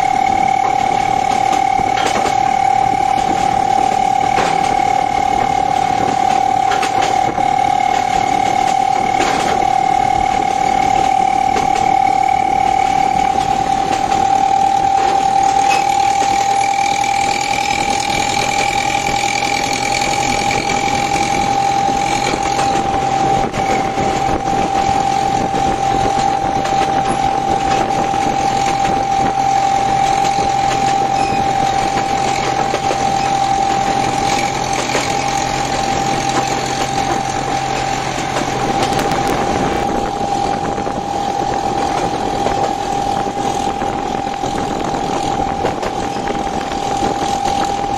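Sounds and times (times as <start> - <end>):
train engine high-pitched whine: 0.0 - 47.9
train running noise: 0.0 - 47.9.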